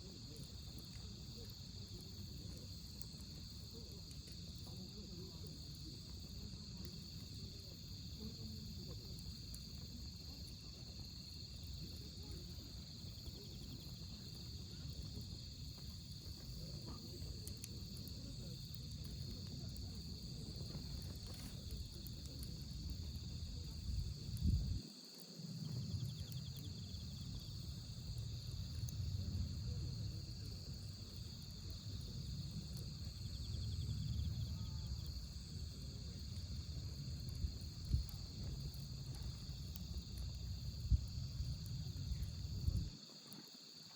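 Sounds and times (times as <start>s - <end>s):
wood fire crackling: 0.0s - 43.4s
crickets chirring: 0.0s - 43.9s.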